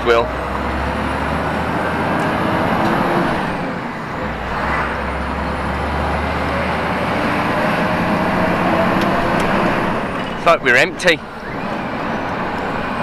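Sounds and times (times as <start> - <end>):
lorry diesel engine drone: 0.0 - 13.0.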